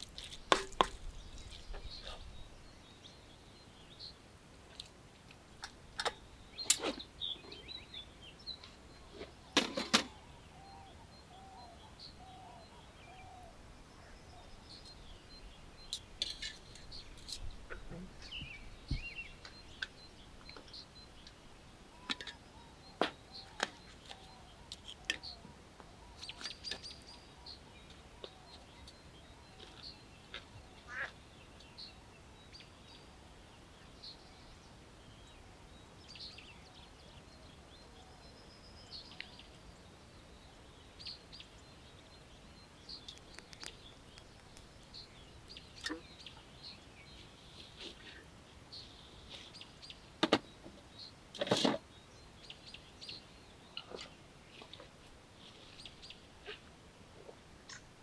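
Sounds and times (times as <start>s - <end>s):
small birds chirping: 0.0s - 4.9s, 5.6s - 58.0s.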